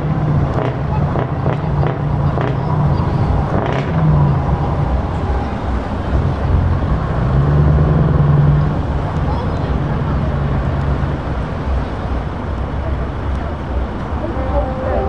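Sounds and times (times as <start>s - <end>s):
diesel lorries running: 0.0s - 15.0s.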